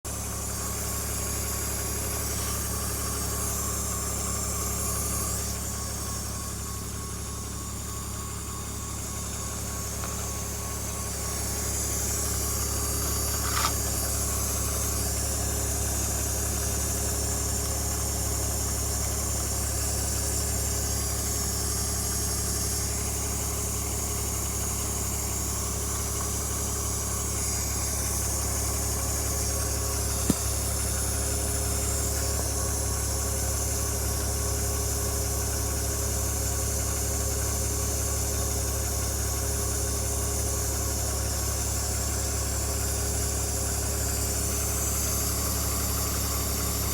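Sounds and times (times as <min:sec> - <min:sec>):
car engine idling: 0:00.1 - 0:46.9.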